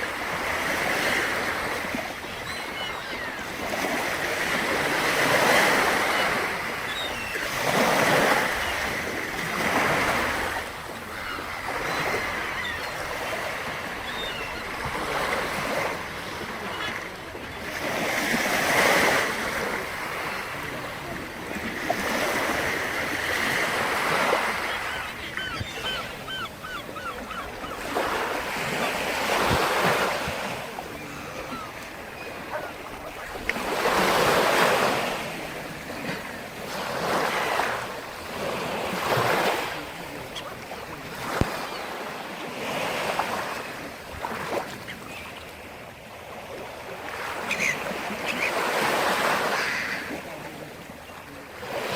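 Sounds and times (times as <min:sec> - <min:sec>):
waves breaking on shore: 0:00.0 - 0:51.9.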